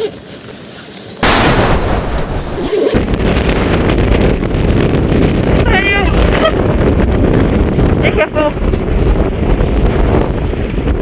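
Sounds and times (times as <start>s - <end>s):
wind buffeting microphone: 1.2s - 11.0s.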